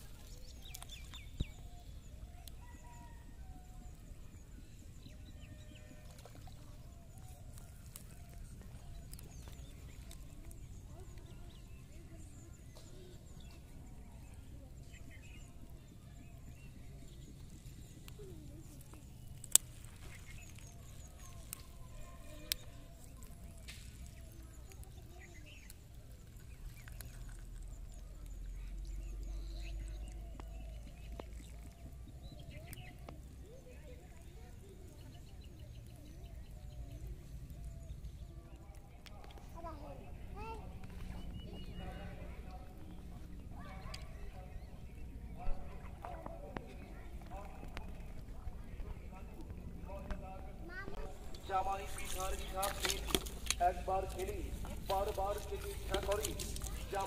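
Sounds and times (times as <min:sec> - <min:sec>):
birds chirping: 0:00.0 - 0:57.0
faint distant voices: 0:00.0 - 0:57.0.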